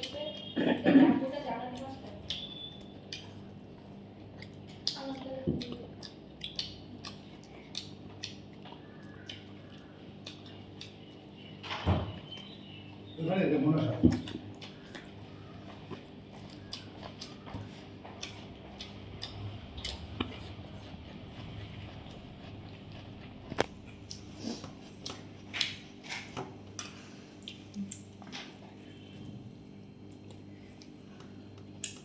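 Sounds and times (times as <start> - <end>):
steady low hum: 0.0 - 32.0
person chewing food: 1.7 - 11.6, 14.1 - 32.0.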